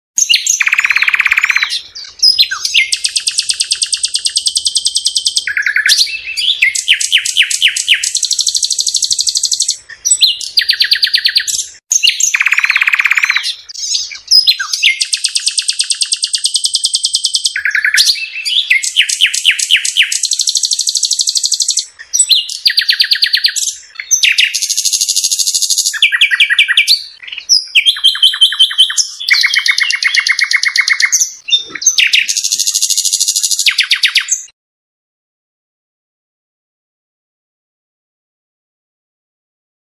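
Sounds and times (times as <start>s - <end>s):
songbird singing trills: 0.2s - 34.5s.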